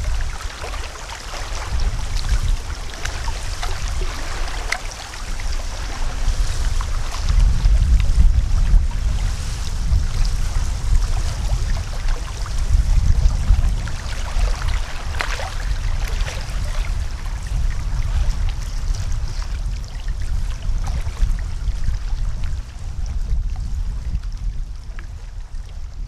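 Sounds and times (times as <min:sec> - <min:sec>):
small waves lapping: 0:00.0 - 0:25.8
wind rumbling on microphone: 0:00.0 - 0:26.0.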